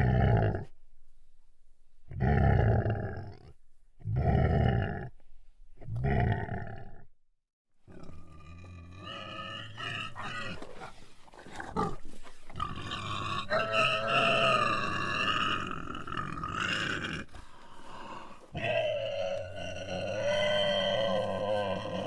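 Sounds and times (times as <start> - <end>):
pig grunting: 0.0 - 0.7, 2.1 - 5.1, 5.8 - 7.0, 7.9 - 22.0.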